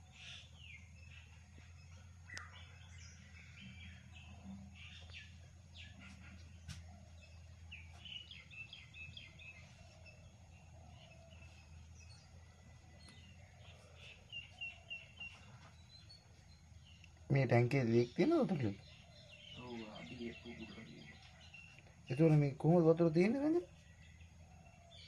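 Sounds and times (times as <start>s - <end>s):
birds chirping: 0.0s - 25.0s
low steady hum: 0.0s - 25.0s.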